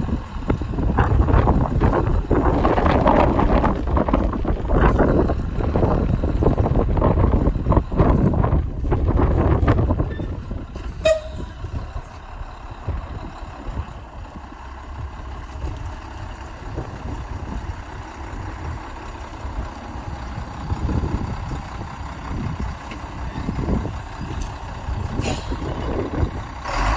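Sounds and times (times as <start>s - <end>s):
truck engine rumbling: 0.0s - 26.9s.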